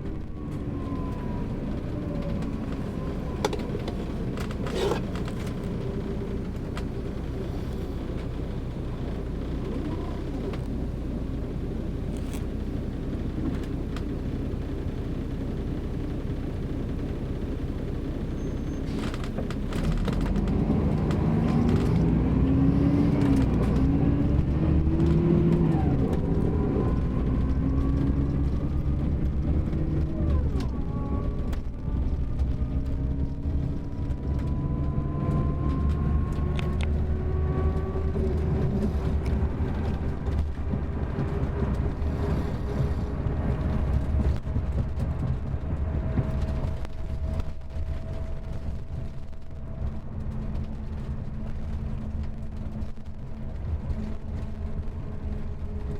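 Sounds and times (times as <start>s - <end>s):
bus diesel engine accelerating: 0.0s - 55.9s.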